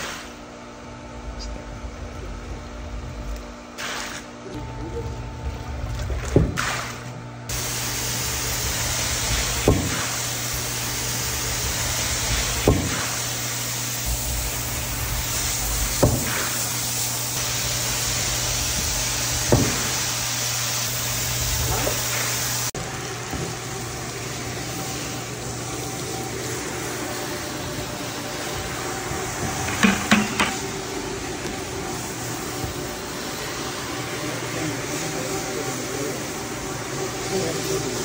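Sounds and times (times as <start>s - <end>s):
machine hum: 0.0s - 38.0s
water spraying onto rug: 5.9s - 38.0s.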